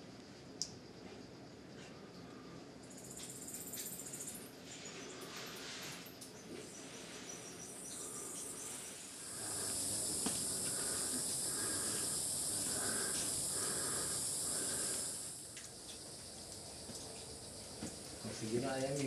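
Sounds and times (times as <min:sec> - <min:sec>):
short insect chirp: 0:00.0 - 0:19.0
high-pitched insect drone: 0:02.8 - 0:19.0.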